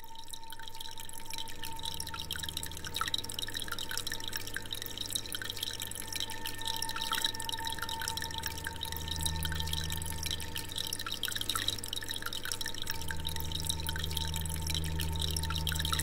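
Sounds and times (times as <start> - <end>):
water trickling and dripping: 0.0 - 16.0
steady low hum: 0.8 - 16.0.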